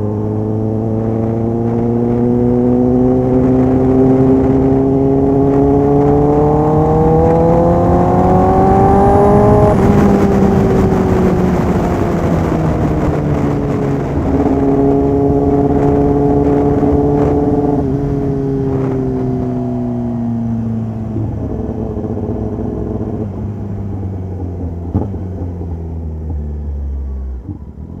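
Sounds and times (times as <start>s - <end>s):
motorcycle engine slowing: 0.0s - 28.0s.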